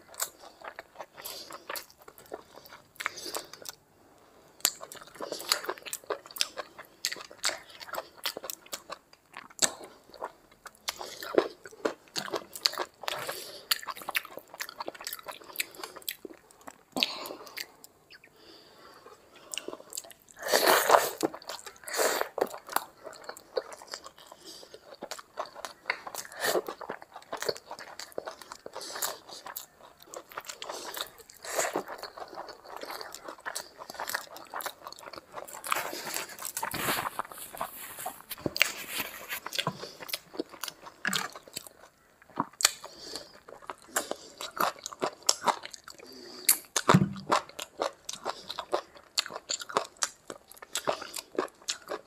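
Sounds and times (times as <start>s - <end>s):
close chewing and biting: 0.0s - 3.8s, 4.6s - 18.3s, 18.9s - 52.0s.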